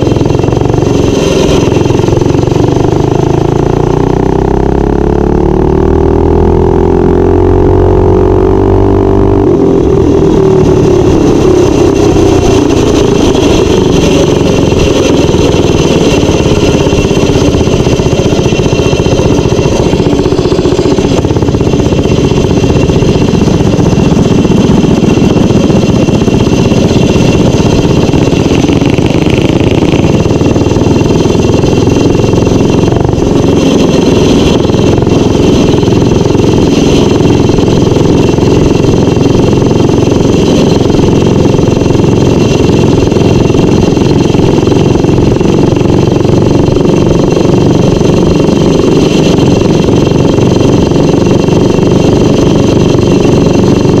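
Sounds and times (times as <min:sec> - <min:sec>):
small engine under throttle: 0:00.0 - 0:54.0
wind and road noise: 0:00.0 - 0:54.0.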